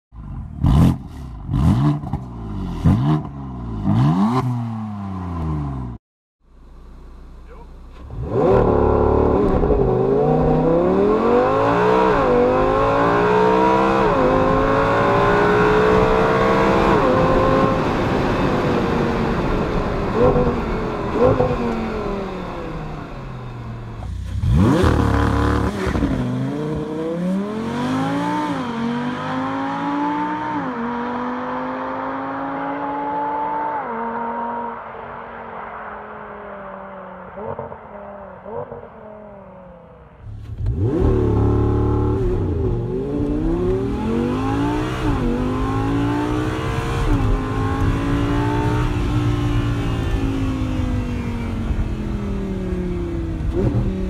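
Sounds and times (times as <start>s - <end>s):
car engine accelerating hard: 7.4s - 54.0s.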